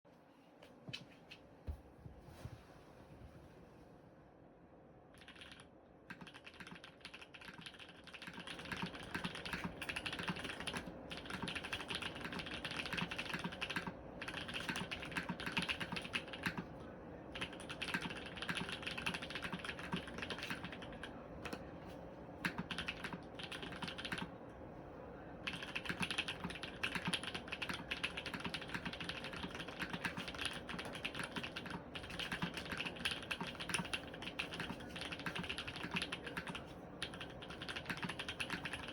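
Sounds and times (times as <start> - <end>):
mechanical keyboard typing: 5.1 - 16.7, 17.3 - 21.6, 22.4 - 24.3, 25.4 - 38.9.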